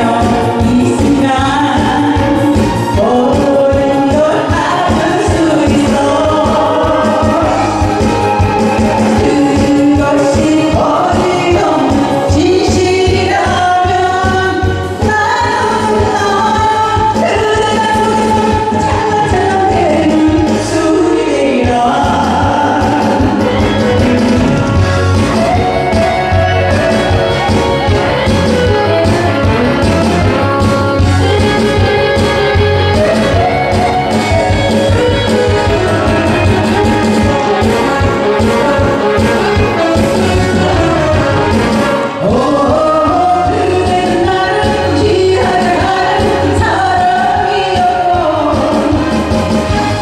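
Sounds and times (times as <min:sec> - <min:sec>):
backing track with steady beat: 0:00.0 - 0:50.0
person singing: 0:00.0 - 0:50.0.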